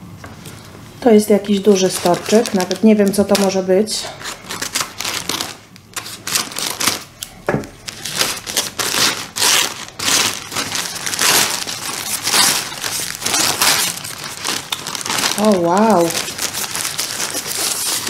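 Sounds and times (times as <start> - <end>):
paper wrapping crinkling: 1.5 - 18.0.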